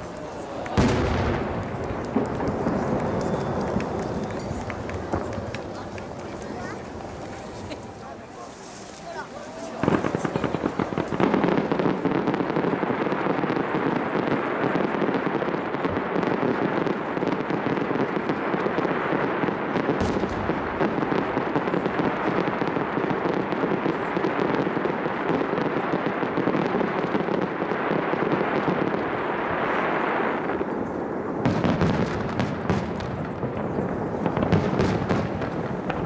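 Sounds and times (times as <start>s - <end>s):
firework crackle: 0.0s - 36.0s
heavy firework bang: 0.5s - 7.8s, 9.6s - 36.0s.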